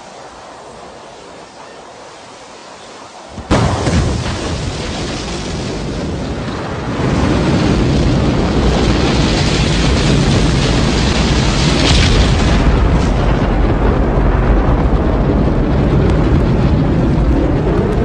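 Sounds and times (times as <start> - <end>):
rocket engine roar: 0.0 - 18.0.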